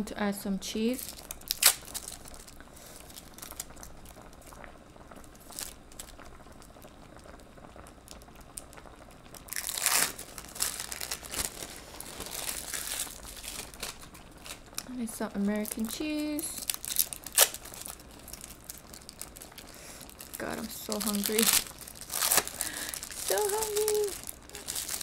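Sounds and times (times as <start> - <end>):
plastic wrapping crinkling: 0.8 - 25.0.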